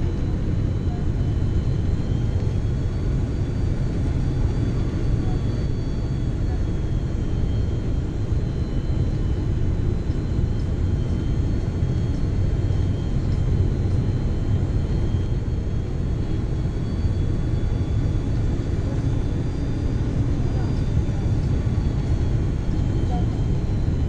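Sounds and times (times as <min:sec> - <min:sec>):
engine and airflow rumble: 0:00.0 - 0:24.0
faint high whine: 0:00.0 - 0:24.0.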